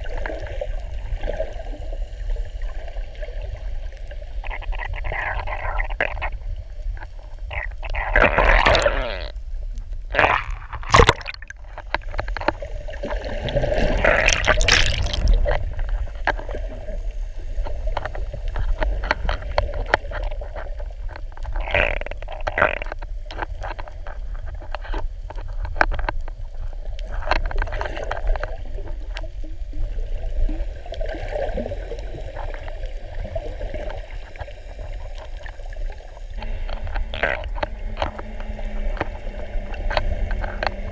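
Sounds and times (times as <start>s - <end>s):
noisy underwater bursts: 0.0s - 23.1s, 29.6s - 40.9s
underwater low rumble: 0.0s - 40.9s.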